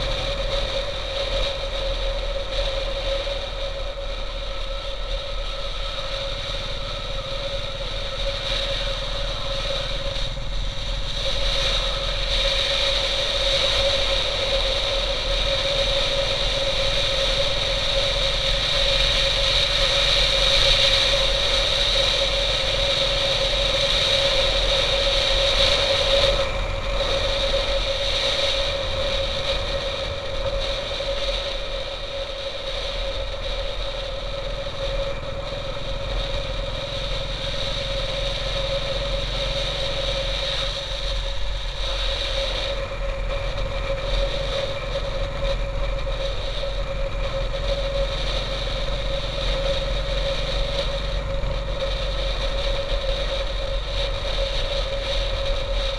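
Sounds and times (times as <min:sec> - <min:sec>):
motorcycle engine cruising: 0:00.0 - 0:55.9
wind rushing over microphone: 0:00.0 - 0:55.9.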